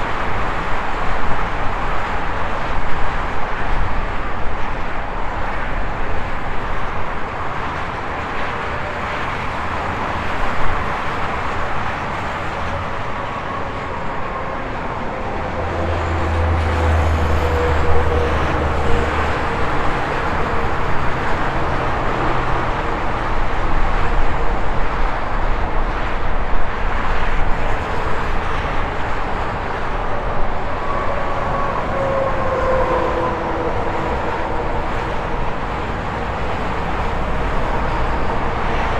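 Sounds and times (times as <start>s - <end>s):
passing vehicles whining: 0.0s - 38.9s
tyre noise of highway traffic: 0.0s - 38.9s.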